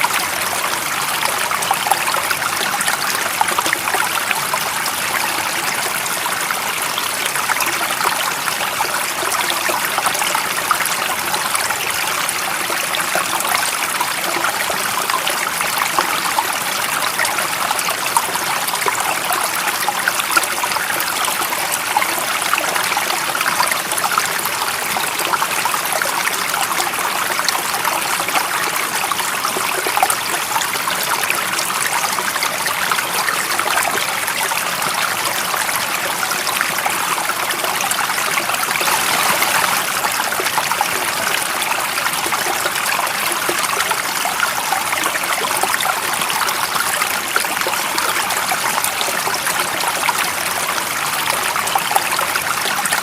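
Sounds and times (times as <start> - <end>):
stream water splashing: 0.0 - 53.0.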